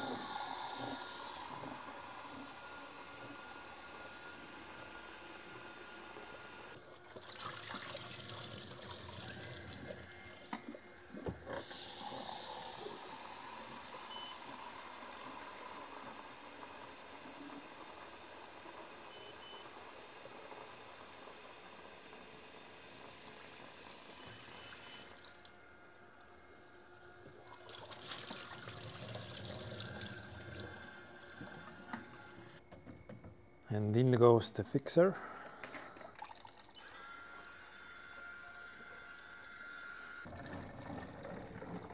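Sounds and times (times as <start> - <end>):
tap water running into tank: 0.0 - 25.8, 27.2 - 32.1, 35.6 - 37.6, 40.2 - 41.9.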